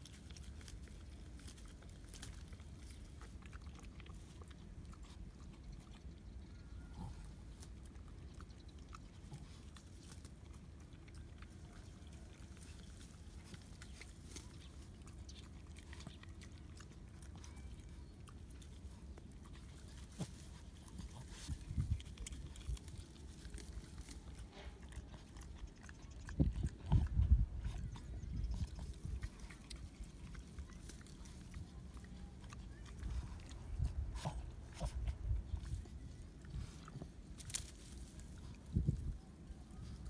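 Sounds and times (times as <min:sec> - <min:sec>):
dog chewing grass: 0:00.0 - 0:40.0.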